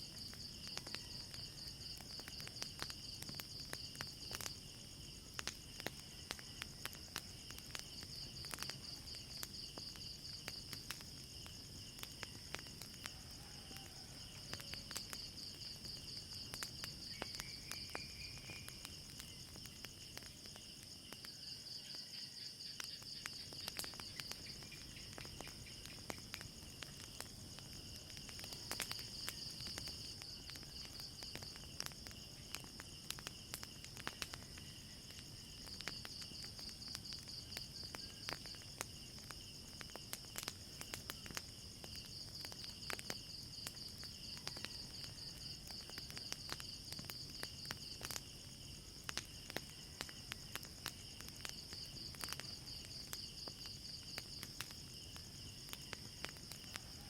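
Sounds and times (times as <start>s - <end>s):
crickets chirping: 0.0s - 57.0s
wood fire crackling: 0.0s - 57.0s.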